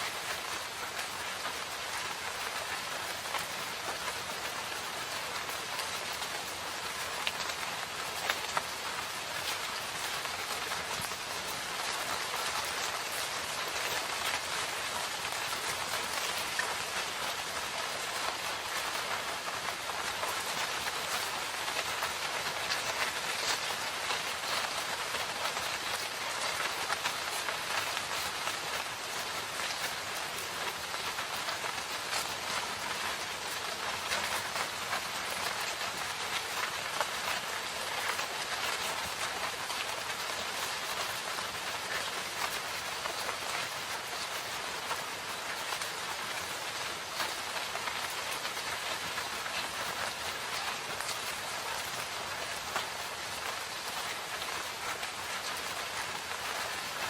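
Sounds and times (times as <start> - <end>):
steady rain in forest: 0.0 - 57.0.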